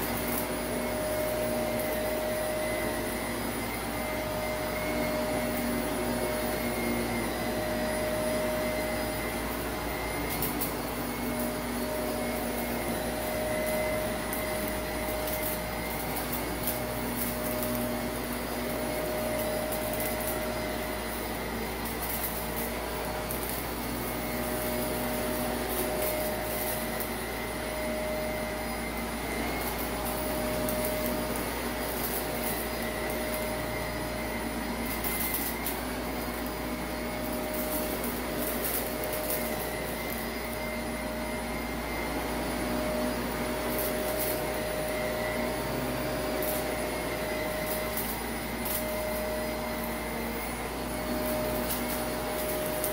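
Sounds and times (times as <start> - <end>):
grit crackling in vacuum: 0.0 - 52.9
vacuum cleaner motor whine: 0.0 - 52.9.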